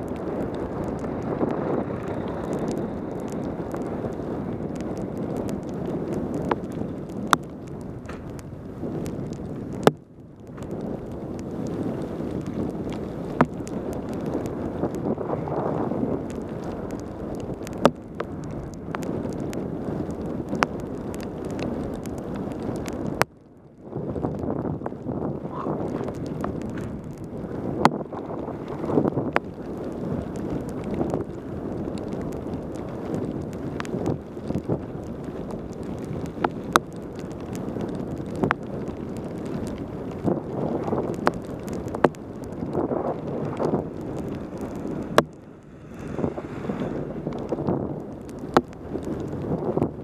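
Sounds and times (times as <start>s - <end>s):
heavy rain: 0.0s - 50.0s
wet tyre and road noise: 0.0s - 50.0s
wind buffeting microphone: 0.0s - 50.0s.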